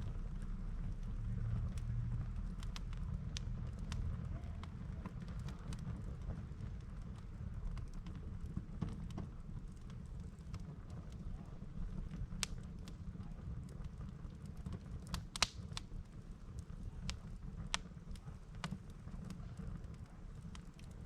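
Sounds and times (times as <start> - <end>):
campfire crackling: 0.0 - 21.0
sharp pops of fire: 0.0 - 21.0.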